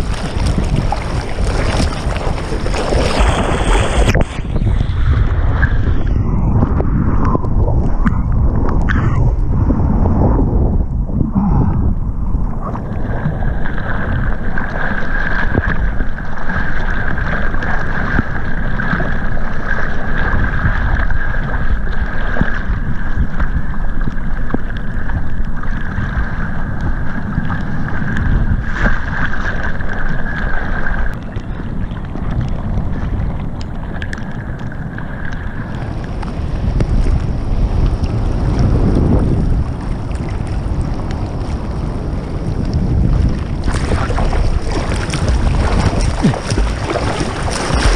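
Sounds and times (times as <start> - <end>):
ocean water sloshing and splashing: 0.0 - 47.9
wind buffeting microphone: 0.0 - 47.9.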